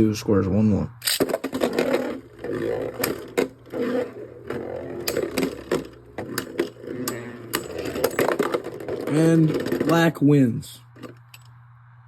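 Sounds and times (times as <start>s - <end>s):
spinning tops clicking: 1.0s - 10.2s, 10.8s - 11.5s
spinning tops whirring: 1.0s - 11.5s.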